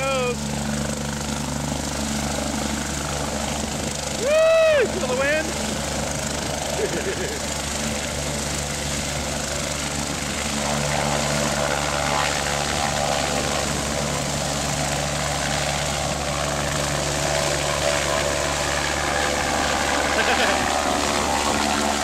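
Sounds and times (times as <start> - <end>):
helicopter rotor and turbine noise: 0.0 - 22.0.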